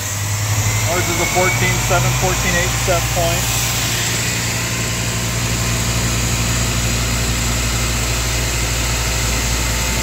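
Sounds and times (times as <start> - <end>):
alternator machine hum: 0.0 - 10.0.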